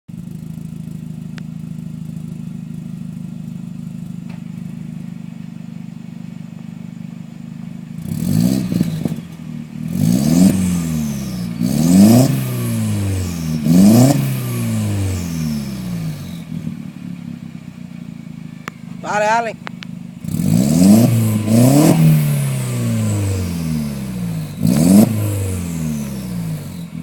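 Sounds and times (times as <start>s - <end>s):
car engine idling and revving: 0.1s - 27.0s.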